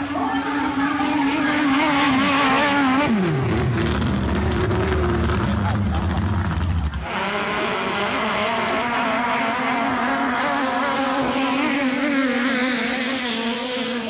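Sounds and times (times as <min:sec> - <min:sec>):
boat engine running hard: 0:00.0 - 0:14.0.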